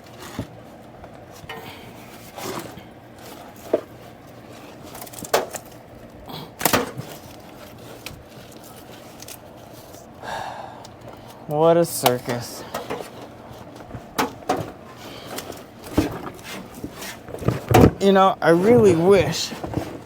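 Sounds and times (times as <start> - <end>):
objects knocking and clunking: 0.0 - 10.1, 12.0 - 20.0.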